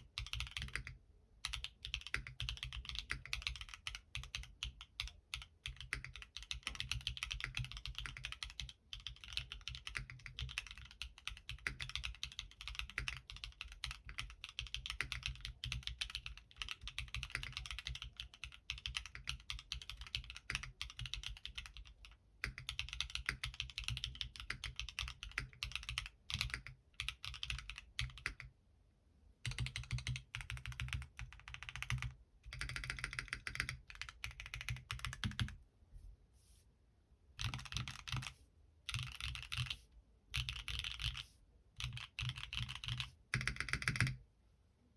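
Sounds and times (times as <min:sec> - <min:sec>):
fast mechanical keyboard typing: 0:00.0 - 0:28.5, 0:29.5 - 0:35.6, 0:37.4 - 0:38.3, 0:38.9 - 0:39.8, 0:40.4 - 0:41.2, 0:41.8 - 0:44.2.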